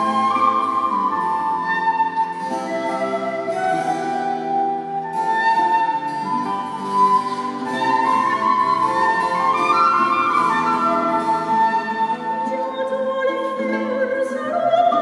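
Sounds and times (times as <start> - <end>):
plucked lute: 0.0 - 15.0
wooden flute melody: 0.0 - 15.0.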